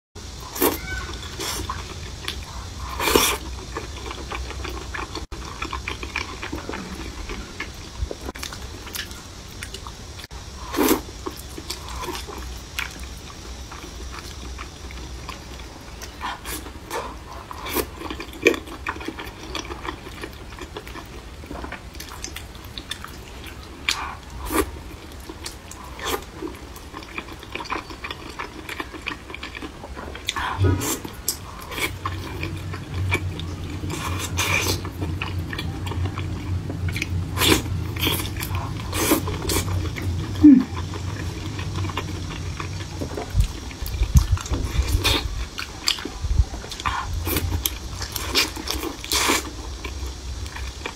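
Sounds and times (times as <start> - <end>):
noodles chewed: 0.2 - 50.9.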